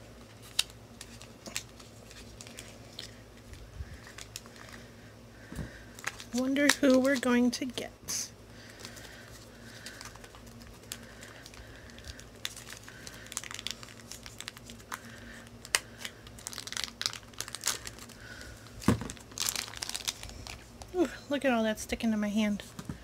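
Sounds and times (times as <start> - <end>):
plastic packets crinkling: 0.3 - 4.9, 5.7 - 7.8, 8.6 - 21.0.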